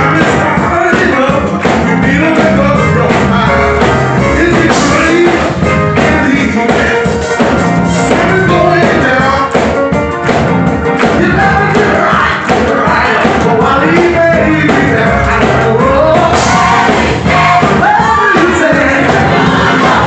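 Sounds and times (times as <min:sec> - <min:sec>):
man singing gospel through microphone: 0:00.0 - 0:10.1, 0:10.9 - 0:20.0
electric keyboard accompaniment: 0:00.0 - 0:20.0.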